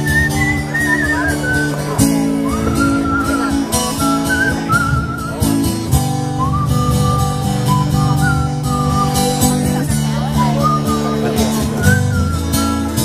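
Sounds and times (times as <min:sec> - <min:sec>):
acoustic guitar strumming: 0:00.0 - 0:13.0
whistled melody: 0:00.0 - 0:13.0.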